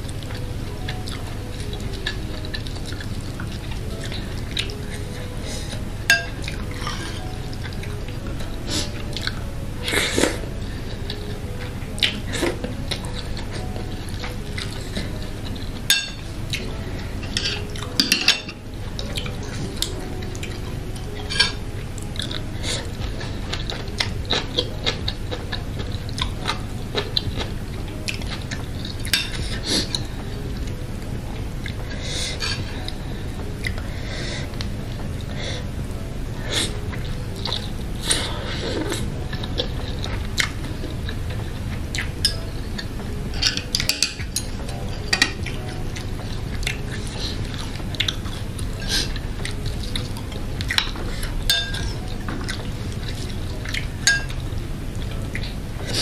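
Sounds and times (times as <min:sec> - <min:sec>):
steady low hum: 0:00.0 - 0:56.0
person chewing noodle soup: 0:00.1 - 0:30.8, 0:36.4 - 0:56.0.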